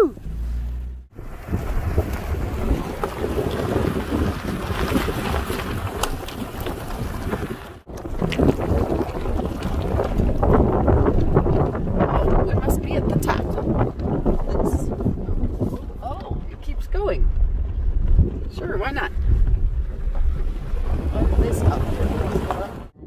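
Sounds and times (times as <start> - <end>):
car rolling on dirt road: 0.0 - 23.0
wind buffeting microphone: 1.0 - 23.0.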